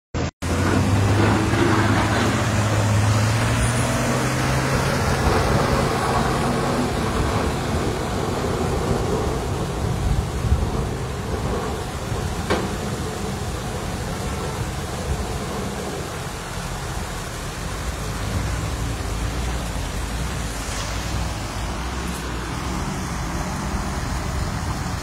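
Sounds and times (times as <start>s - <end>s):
floodwater rushing: 0.4s - 25.0s
truck engine running: 0.4s - 25.0s.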